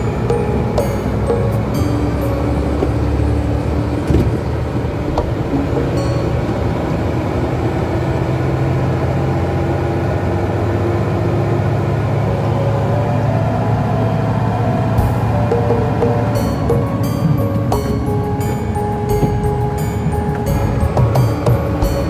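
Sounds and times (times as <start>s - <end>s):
engine and tyre rumble: 0.0s - 22.0s
low hums: 0.0s - 22.0s.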